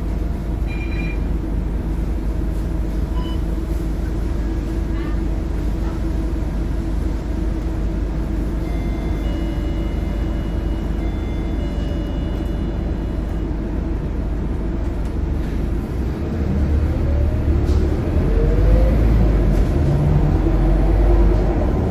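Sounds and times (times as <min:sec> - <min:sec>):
bus diesel engine rumbling: 0:00.0 - 0:21.9.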